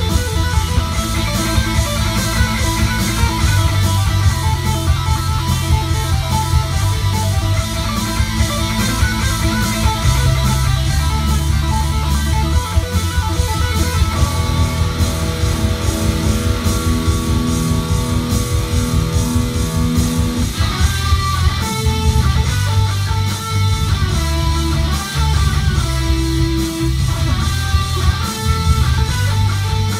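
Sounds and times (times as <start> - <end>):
electric guitar rock piece: 0.0 - 29.9
steady beat: 0.0 - 29.9.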